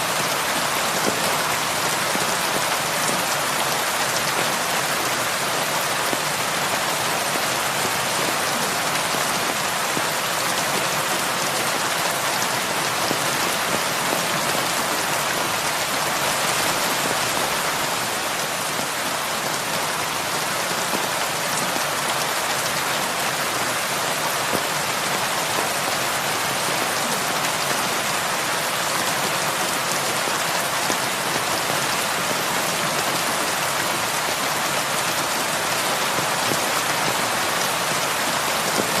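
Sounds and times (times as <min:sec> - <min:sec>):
heavy rain on a roof: 0:00.0 - 0:39.0.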